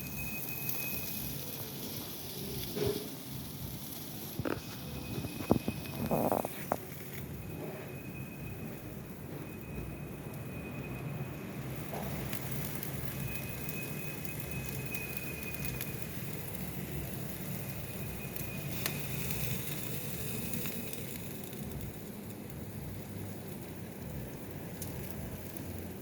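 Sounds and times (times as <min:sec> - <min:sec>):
thin high tone: 0:00.0 - 0:21.2
meat sizzling on a grill: 0:00.0 - 0:26.0.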